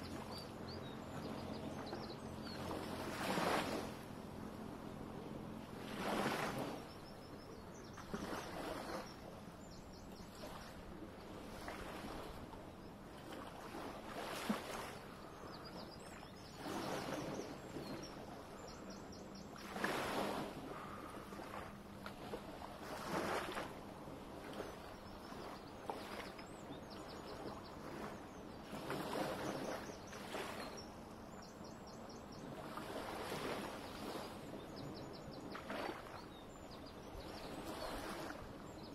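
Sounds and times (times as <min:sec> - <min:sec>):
small waves lapping on shore: 0:00.0 - 0:38.9.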